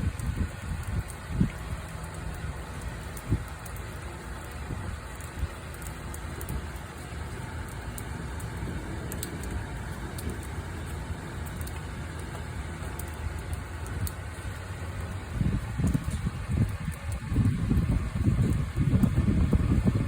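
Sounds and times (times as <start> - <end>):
rain drops ticking: 0.0 - 20.0
steady rain: 0.0 - 20.0
wind buffeting microphone: 0.0 - 20.0.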